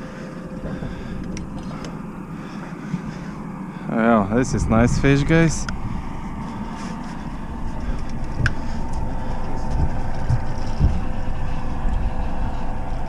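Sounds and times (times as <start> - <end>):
boat engine running: 0.0 - 13.0
wind rumble on microphone: 0.0 - 13.0.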